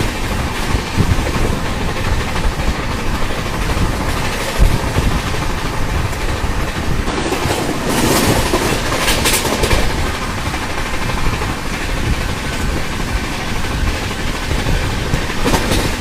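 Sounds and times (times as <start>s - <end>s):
train rumble: 0.0s - 16.0s
train wheels clattering on rails: 0.0s - 16.0s.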